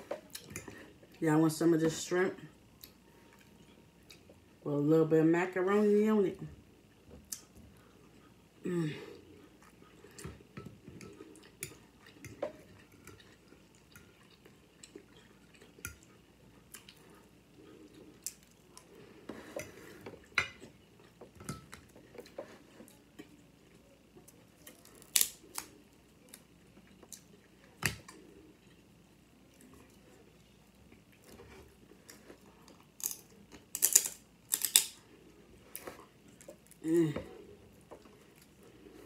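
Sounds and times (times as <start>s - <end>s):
soft chewing: 0.0s - 1.2s, 2.5s - 4.6s, 6.9s - 39.0s.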